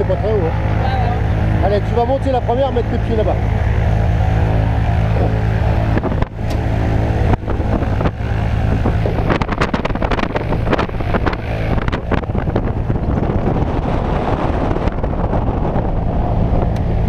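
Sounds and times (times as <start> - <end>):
light aircraft engine and propeller: 0.0 - 17.0
propeller wash buffeting microphone: 0.0 - 17.0.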